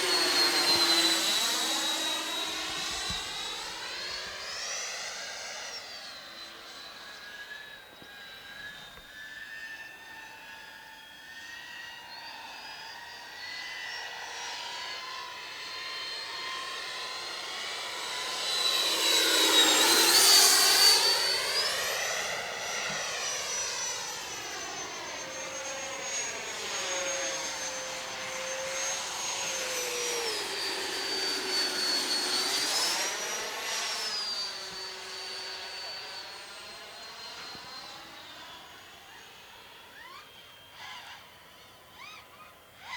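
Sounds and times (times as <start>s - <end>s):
model jet fan whining: 0.0s - 42.2s.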